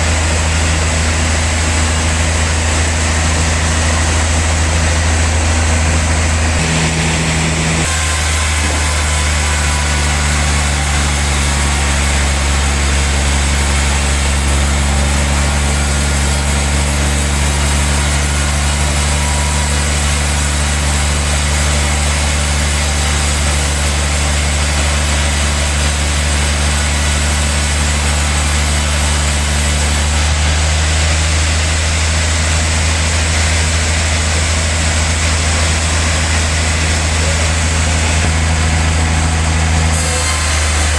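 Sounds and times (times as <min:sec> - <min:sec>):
sawmill sawing log: 0:00.0 - 0:40.9.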